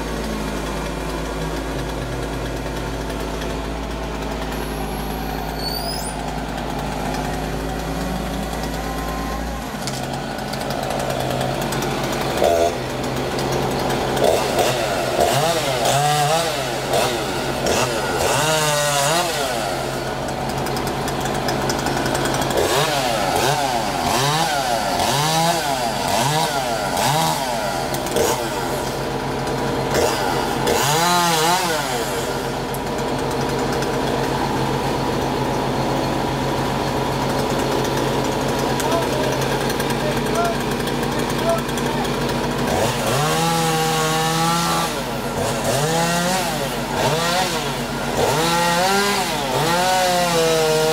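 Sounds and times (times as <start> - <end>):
chainsaw revving: 0.0 - 50.9
truck engine running: 0.0 - 50.9.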